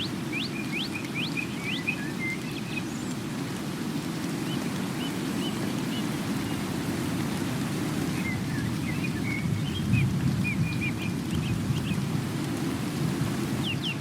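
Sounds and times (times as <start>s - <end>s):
rain-like rushing noise: 0.0s - 14.0s
small birds chirping: 0.0s - 14.0s.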